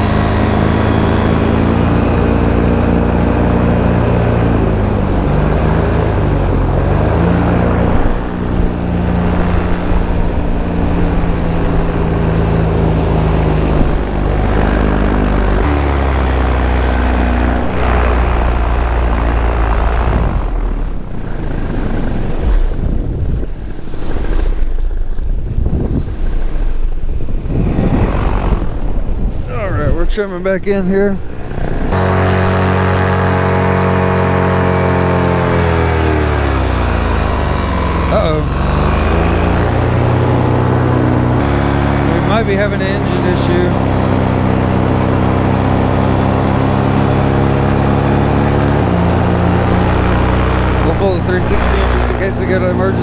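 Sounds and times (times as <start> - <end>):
paramotor engine and propeller: 0.0 - 53.0
wind rushing over microphone: 0.0 - 53.0.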